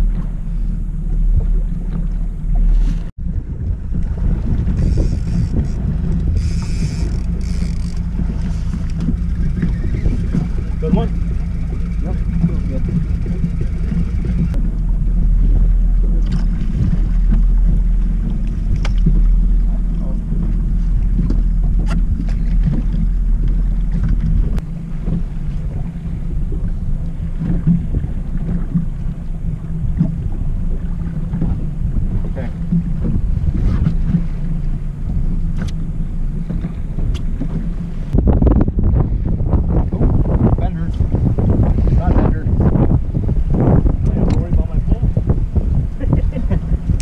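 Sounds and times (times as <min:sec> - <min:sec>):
outboard motor running: 0:00.0 - 0:47.0
wind buffeting microphone: 0:00.0 - 0:47.0.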